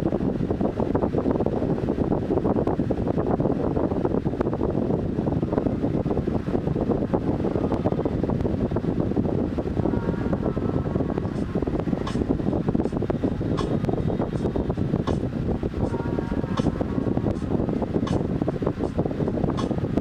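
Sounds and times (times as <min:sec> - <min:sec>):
rumbling rush of noise: 0:00.0 - 0:20.0.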